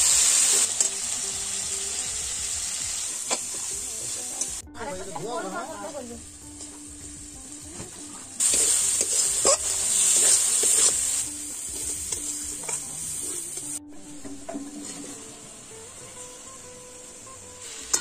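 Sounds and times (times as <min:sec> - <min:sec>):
masala sizzling in a wok: 0:00.0 - 0:18.0.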